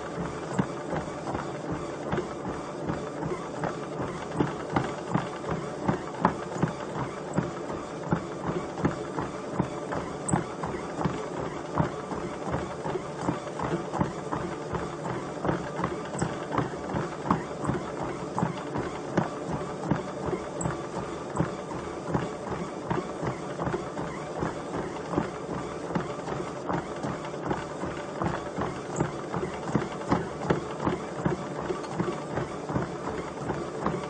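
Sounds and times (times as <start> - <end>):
running footfalls on treadmill: 0.0 - 34.0
treadmill running: 0.0 - 34.0.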